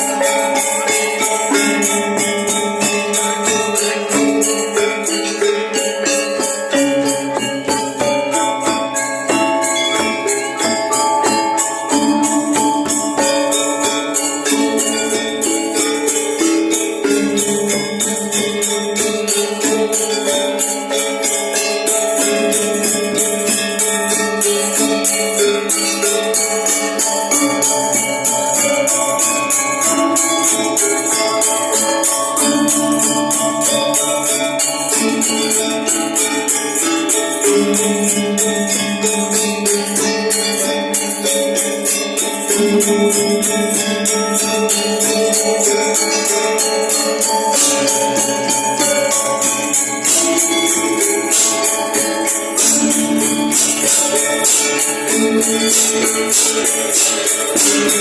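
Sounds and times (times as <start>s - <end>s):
gamelan ensemble playing: 0.0s - 58.0s
small cymbals clashing: 0.0s - 58.0s.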